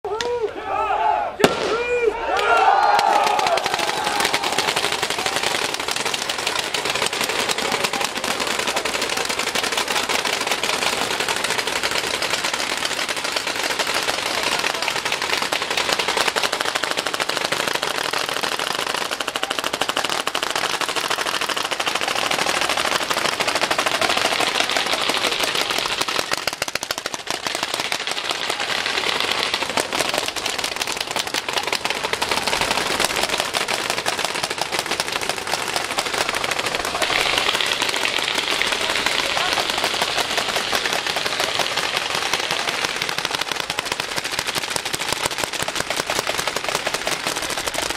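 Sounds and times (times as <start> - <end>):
paintball markers rapid fire: 1.4 - 47.9.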